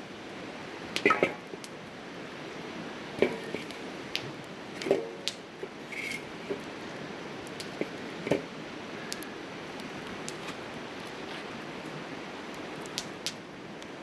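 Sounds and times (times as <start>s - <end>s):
fire hissing: 0.0s - 14.0s
wood fire crackling: 0.0s - 14.0s.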